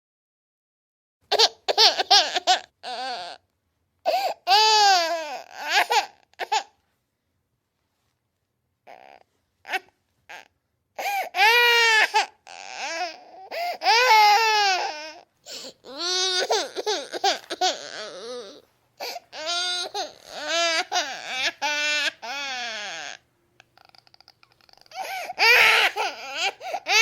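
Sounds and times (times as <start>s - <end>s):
baby crying: 1.3s - 3.4s, 4.0s - 6.8s, 8.9s - 27.0s.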